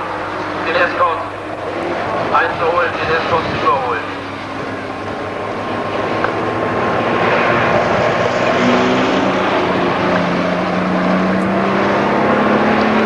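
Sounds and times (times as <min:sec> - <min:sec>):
broad rush of noise: 0:00.0 - 0:13.0
rally car engines racing: 0:00.0 - 0:13.0
steady engine tone: 0:00.0 - 0:13.0.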